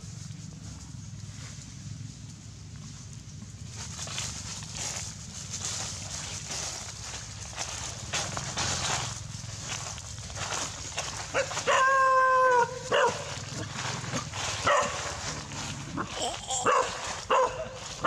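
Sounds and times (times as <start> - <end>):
scuffling in dry leaves: 0.0 - 18.0.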